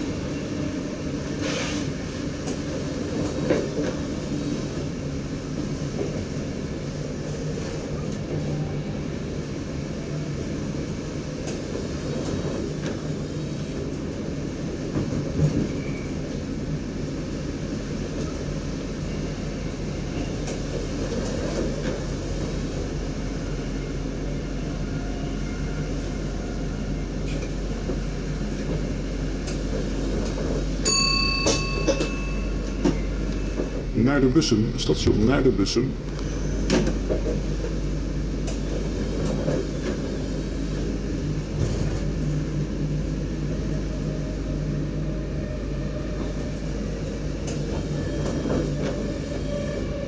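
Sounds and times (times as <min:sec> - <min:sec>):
train rumble and rail noise: 0:00.0 - 0:50.0.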